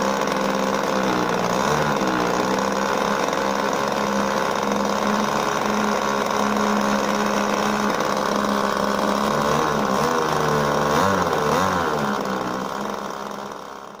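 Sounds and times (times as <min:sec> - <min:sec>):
model airplane engine running: 0:00.0 - 0:14.0.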